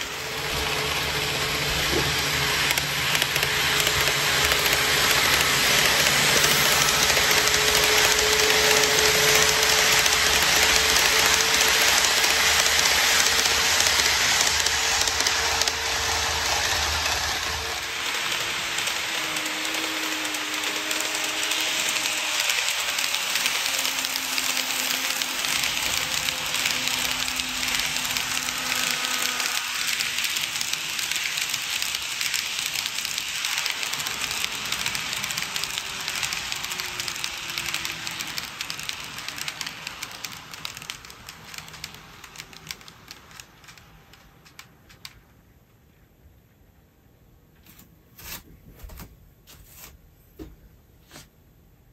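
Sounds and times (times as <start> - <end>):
model train wheels clicking: 0.0 - 45.3
faint motor whine: 0.0 - 45.8.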